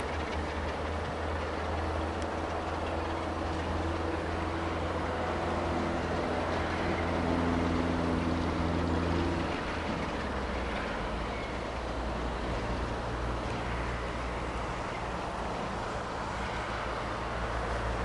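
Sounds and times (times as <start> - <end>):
diesel locomotive engine droning: 0.0 - 18.0.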